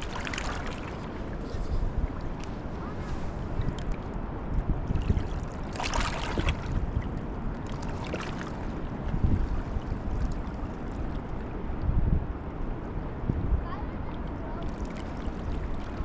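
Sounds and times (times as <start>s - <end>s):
rushing river water: 0.0s - 11.8s, 13.8s - 16.0s
wind rumbling on microphone: 0.0s - 16.0s.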